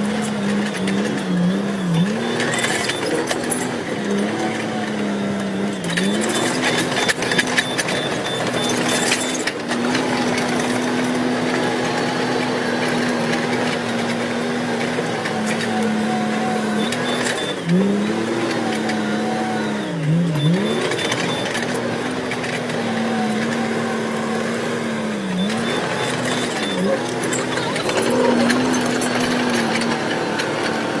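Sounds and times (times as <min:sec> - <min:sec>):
bulldozer diesel engine running: 0:00.0 - 0:31.0.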